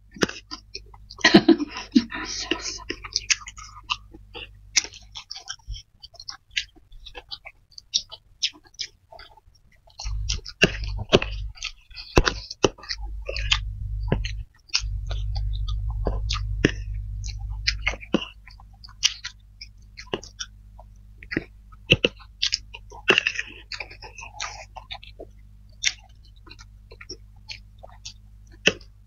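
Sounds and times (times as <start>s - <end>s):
wet chewing and smacking: 0.0s - 1.4s, 2.0s - 29.0s
low hum: 0.0s - 8.1s, 9.2s - 29.0s.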